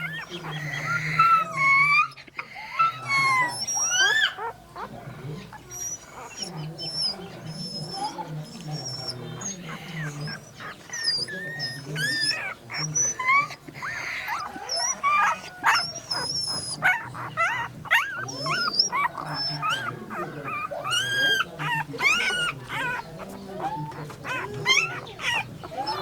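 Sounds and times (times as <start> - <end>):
puppies whimpering and yipping: 0.0 - 26.0.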